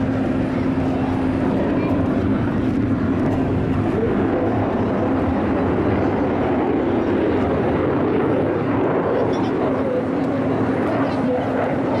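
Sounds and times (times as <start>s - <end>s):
loud jet engine noise: 0.0s - 12.0s.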